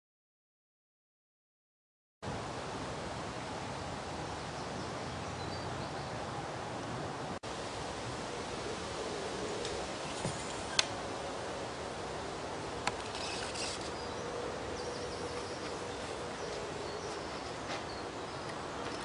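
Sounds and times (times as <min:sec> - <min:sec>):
outdoor background hiss: 0:02.2 - 0:19.0.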